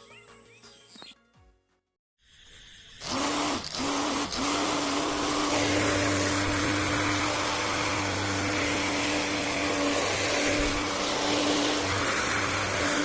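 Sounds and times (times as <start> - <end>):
small fan whirring: 2.3 - 13.0.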